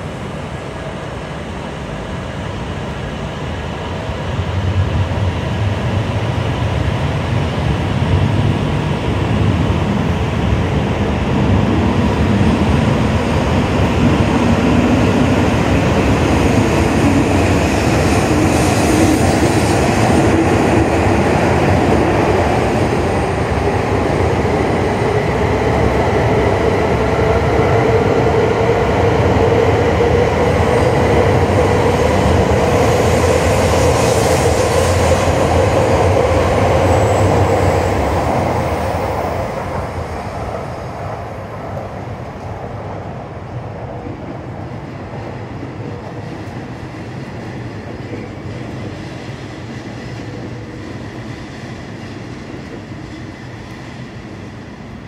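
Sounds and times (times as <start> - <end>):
high-speed train running with whine: 0.0 - 55.0.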